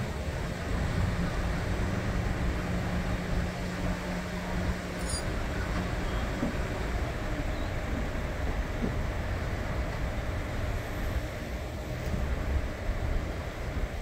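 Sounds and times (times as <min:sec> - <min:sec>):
street traffic rumble: 0:00.0 - 0:14.0
tow truck engine humming: 0:00.0 - 0:14.0.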